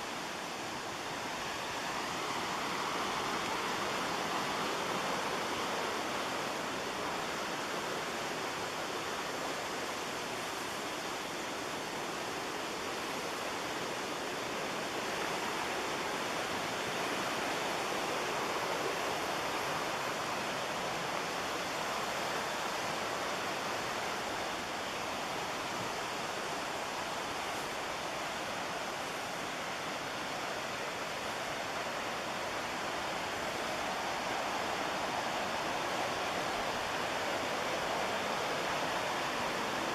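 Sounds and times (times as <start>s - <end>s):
fast whitewater rushing: 0.0s - 39.9s.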